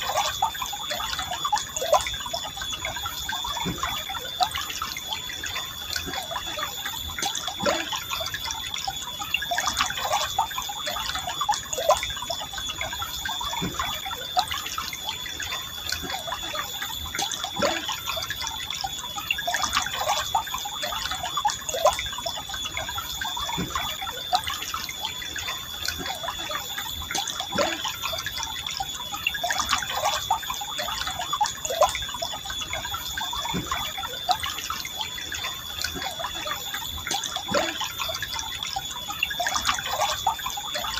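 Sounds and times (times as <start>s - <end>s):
water drips and gurgles: 0.0s - 40.9s.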